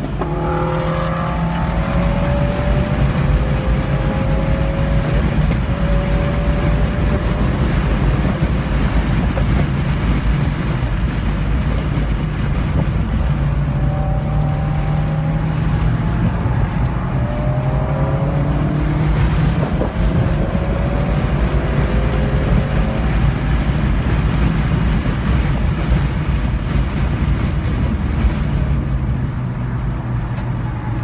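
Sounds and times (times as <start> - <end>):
car engine at full throttle: 0.0 - 31.0
wind and road noise: 0.0 - 31.0.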